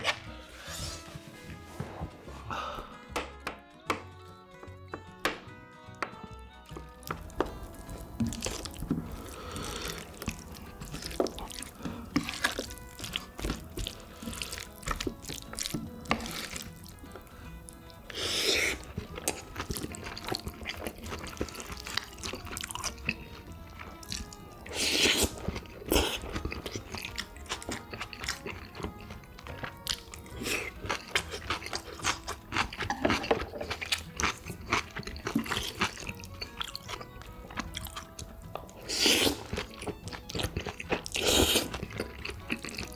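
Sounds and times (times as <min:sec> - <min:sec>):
wet eating sounds: 0:00.0 - 0:03.0, 0:06.5 - 0:42.9
quiet background music: 0:00.0 - 0:42.9.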